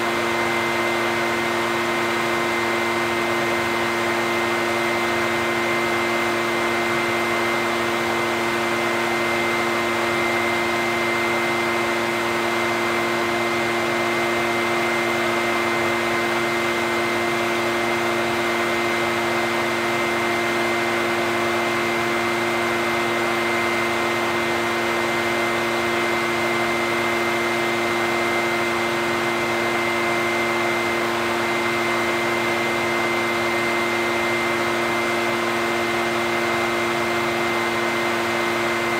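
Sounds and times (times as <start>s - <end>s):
leaf blower running: 0.0s - 38.9s.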